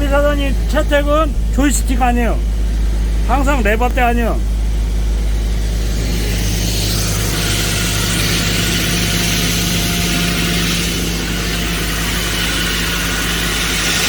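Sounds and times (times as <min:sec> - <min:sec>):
excavator engine humming: 0:00.0 - 0:14.0
hydraulic drill hissing: 0:00.0 - 0:14.0.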